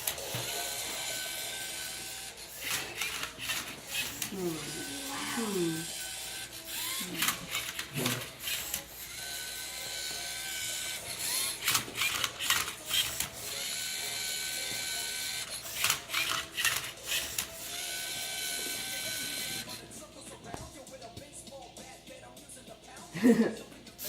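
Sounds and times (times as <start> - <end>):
robot motors whining: 0.0 - 19.8.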